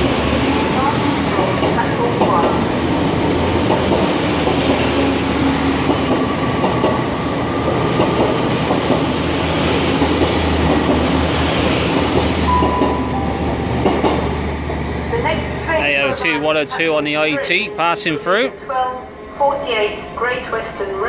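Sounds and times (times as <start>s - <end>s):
wheels rumbling on rail: 0.0s - 18.3s.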